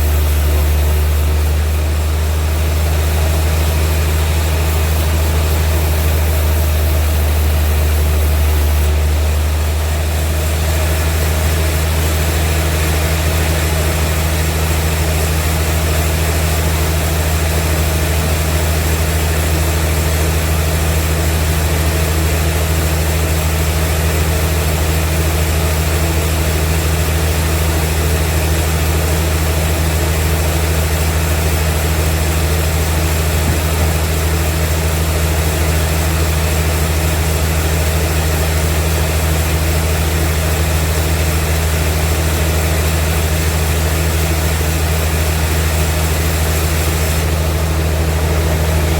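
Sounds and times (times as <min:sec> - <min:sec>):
sawmill machinery droning: 0:00.0 - 0:48.9.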